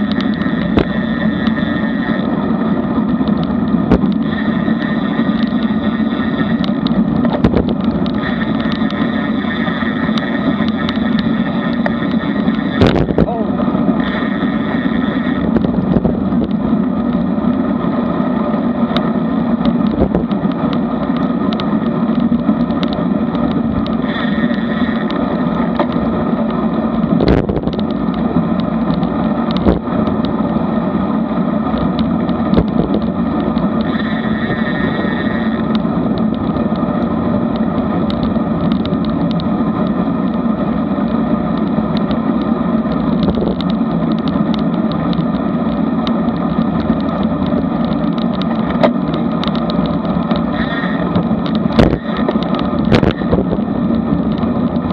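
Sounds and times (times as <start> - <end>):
road rumble: 0.0 - 54.9
wind rush: 0.0 - 54.9.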